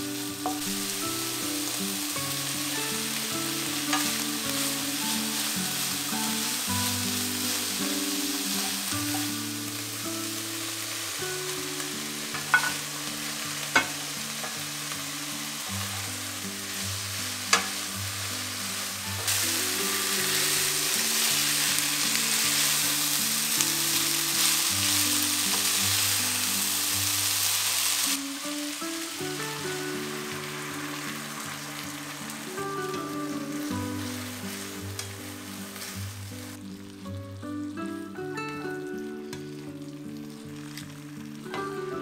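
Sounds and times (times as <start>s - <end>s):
food sizzling in a wok: 0.0s - 42.0s
soft background music: 0.0s - 42.0s.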